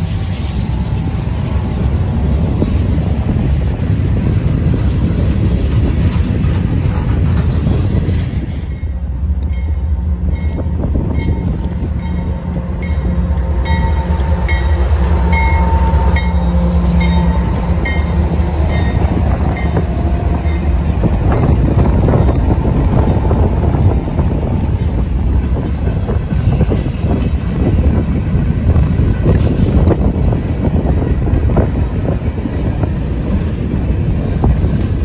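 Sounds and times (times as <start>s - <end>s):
diesel locomotive engine drone: 0.0s - 35.0s
freight cars rumbling past: 0.0s - 35.0s.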